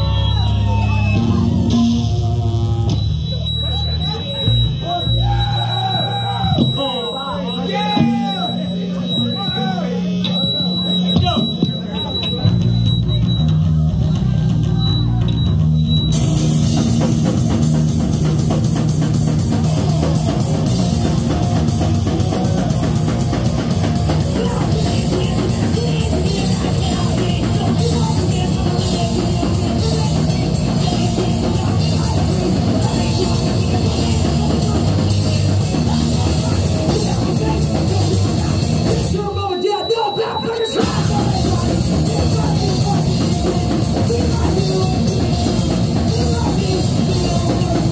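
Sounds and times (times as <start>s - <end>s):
electric bass: 0.0s - 39.5s, 40.8s - 47.9s
distorted electric guitar: 0.0s - 47.9s
drum kit and cymbals: 0.0s - 47.9s.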